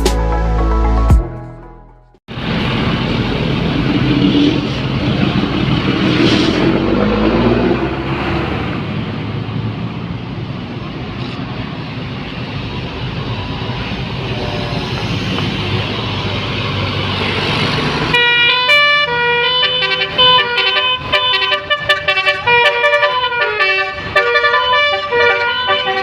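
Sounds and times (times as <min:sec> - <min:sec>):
road traffic passing: 0:02.3 - 0:26.0.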